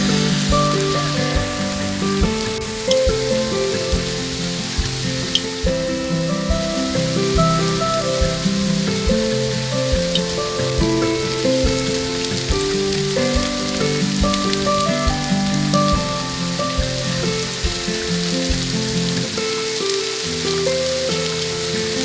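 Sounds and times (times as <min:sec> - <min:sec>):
background music with low beat: 0:00.0 - 0:19.3
heavy rain hissing: 0:00.0 - 0:22.0.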